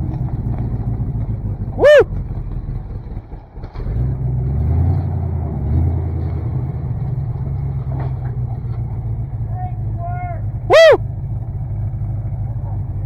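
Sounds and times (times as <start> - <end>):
truck engine running under load: 0.0 - 13.0.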